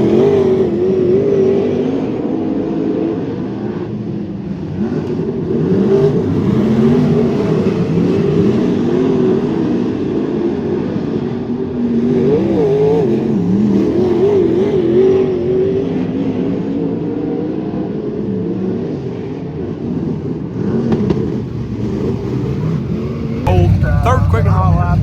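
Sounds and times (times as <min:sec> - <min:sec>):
race car engines: 0:00.0 - 0:25.0.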